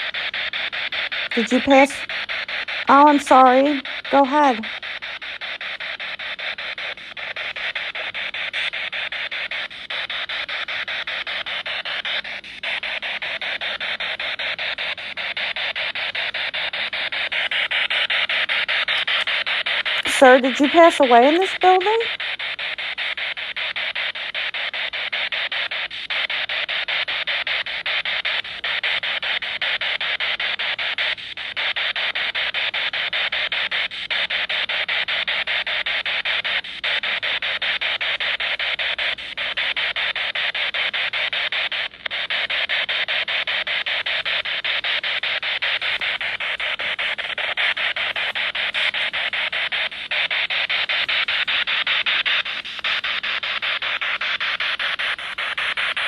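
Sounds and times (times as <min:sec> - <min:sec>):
radio static hissing: 0:00.0 - 0:56.0.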